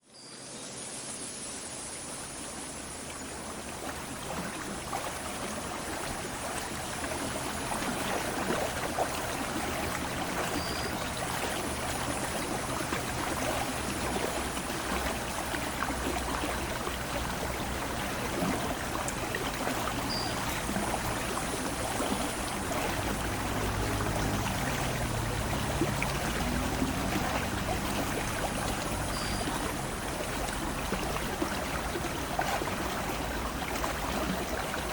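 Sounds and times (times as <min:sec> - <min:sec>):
river water rushing: 0:02.2 - 0:34.9.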